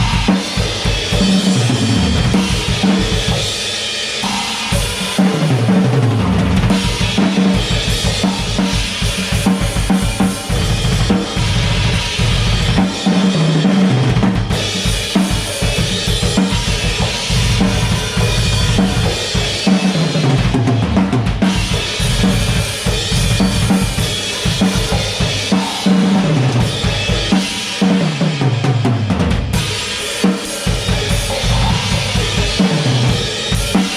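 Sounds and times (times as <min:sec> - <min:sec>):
drum kit played fast: 0:00.0 - 0:33.9.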